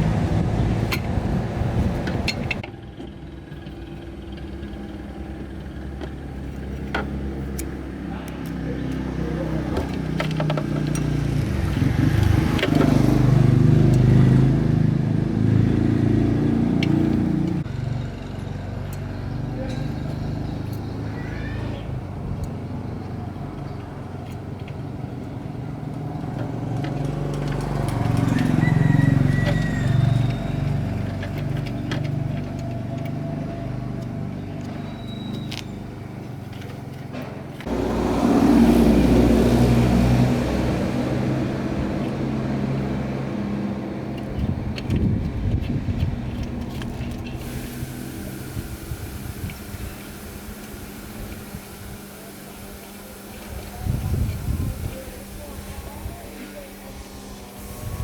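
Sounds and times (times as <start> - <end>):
passing motor vehicles rumbling: 0.0 - 58.0.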